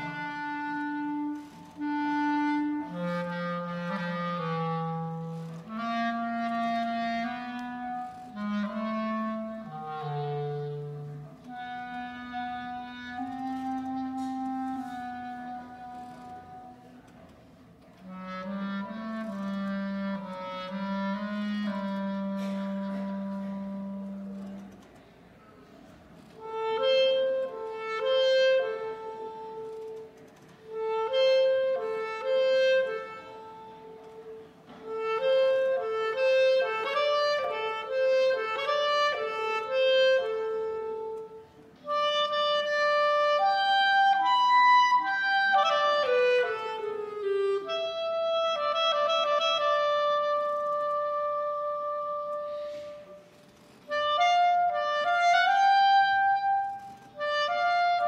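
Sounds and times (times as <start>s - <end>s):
solo clarinet playing: 0.0s - 58.0s.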